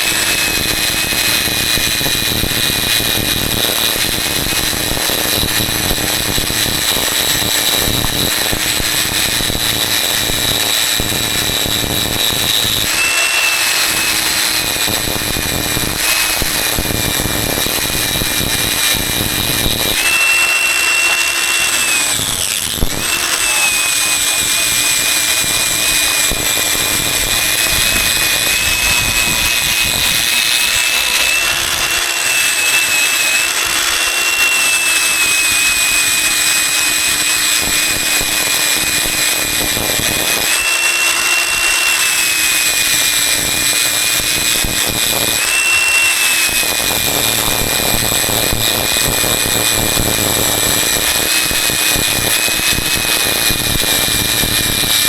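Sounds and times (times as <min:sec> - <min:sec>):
power tool motor whine: 0:00.0 - 0:55.0.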